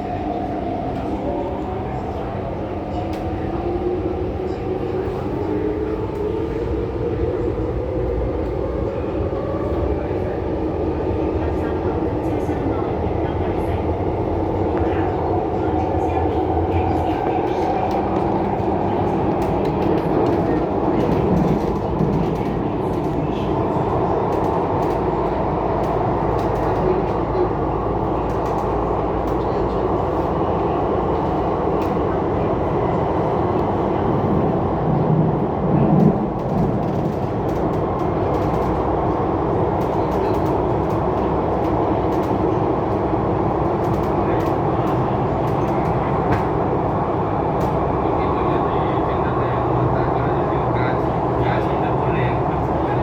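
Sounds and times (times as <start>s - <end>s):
train running noise inside carriage: 0.0s - 53.0s.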